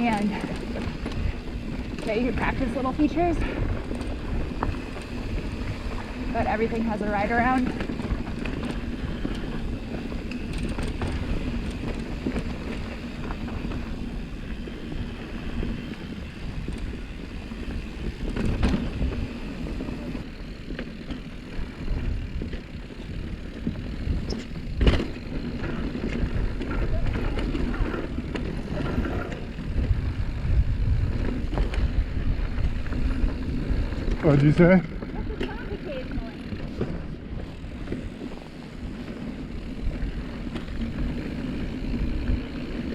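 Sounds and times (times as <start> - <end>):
bike rattling over bumps: 0.0 - 42.9
tyres rolling over dirt: 0.0 - 42.9
wind buffeting microphone: 0.0 - 42.9.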